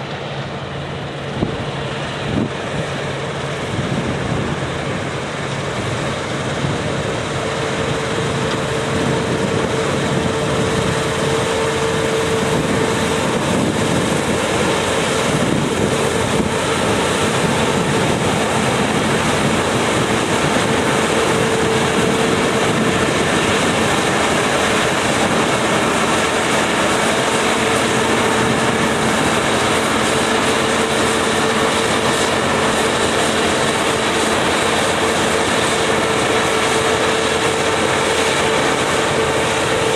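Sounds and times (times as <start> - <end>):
combine harvester running: 0.0 - 39.9
steady machine whine: 0.0 - 39.9.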